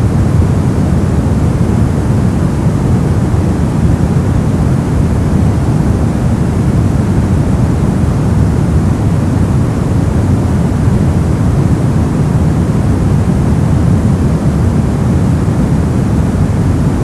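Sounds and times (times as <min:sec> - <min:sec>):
deep rumbling brown noise: 0:00.0 - 0:17.0.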